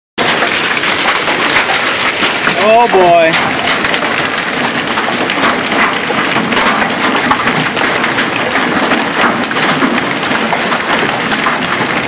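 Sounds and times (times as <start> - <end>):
hailstones clicking: 0.2 - 12.0
rain hissing on asphalt: 0.2 - 12.0.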